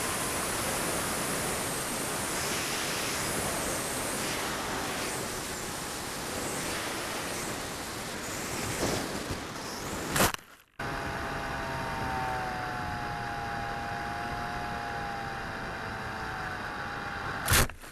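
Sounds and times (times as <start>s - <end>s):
faint wavering whine: 0.0s - 8.8s, 10.8s - 17.6s.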